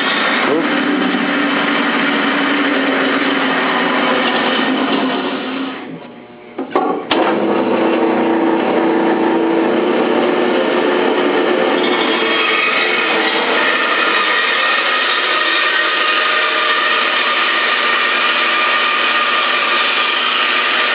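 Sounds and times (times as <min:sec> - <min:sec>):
bandsaw cutting wood: 0:00.0 - 0:06.0, 0:07.2 - 0:20.9.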